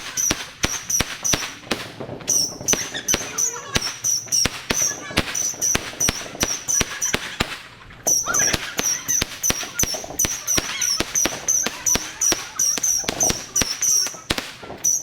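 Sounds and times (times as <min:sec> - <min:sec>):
fireworks banging: 0:00.0 - 0:15.0.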